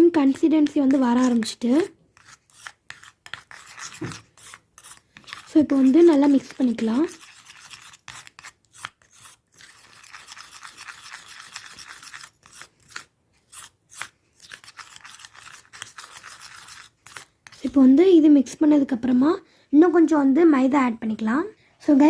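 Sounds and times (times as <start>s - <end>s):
spoon scraping paste in bowl: 0.1s - 17.9s.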